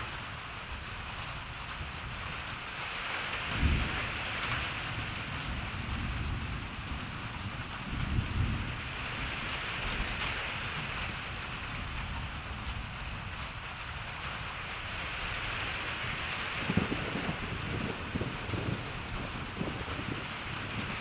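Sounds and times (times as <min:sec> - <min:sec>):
rain falling: 0:00.0 - 0:21.0
thunder rumble: 0:03.2 - 0:21.0.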